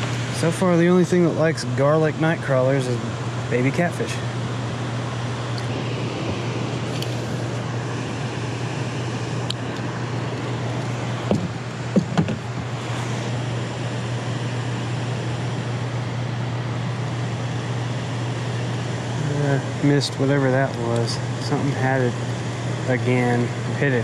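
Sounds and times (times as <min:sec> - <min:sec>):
constant low hum: 0:00.0 - 0:24.0.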